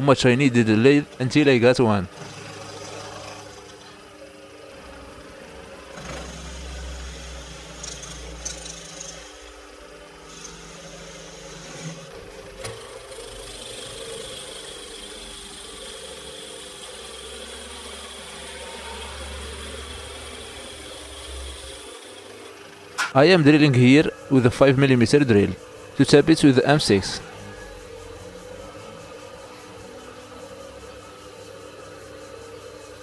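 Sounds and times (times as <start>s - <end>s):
high whine of metal cutting: 0.0s - 33.0s
lathe motor hum: 0.0s - 33.0s.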